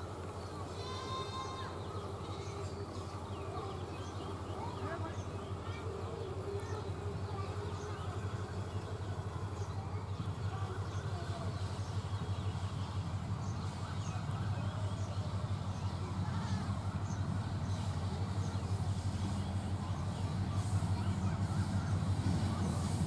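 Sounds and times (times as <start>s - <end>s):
birds chirping: 0.0s - 23.0s
diesel locomotive engine droning: 0.0s - 23.0s.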